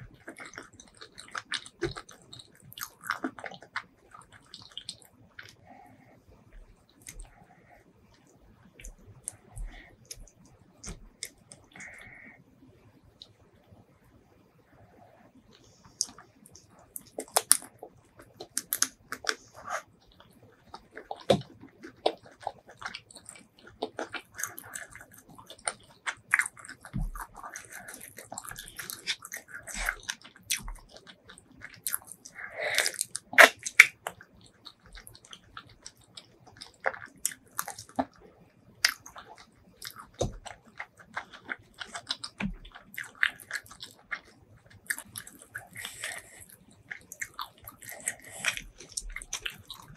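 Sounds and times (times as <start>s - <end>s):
chewing and crunching: 0.0s - 12.4s, 14.7s - 49.9s
mouth clicks and smacks: 0.1s - 5.9s, 15.5s - 49.9s.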